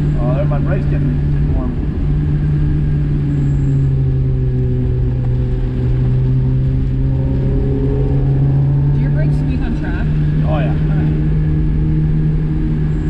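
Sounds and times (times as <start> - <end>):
car engine droning: 0.0 - 13.0
low road rumble: 0.0 - 13.0.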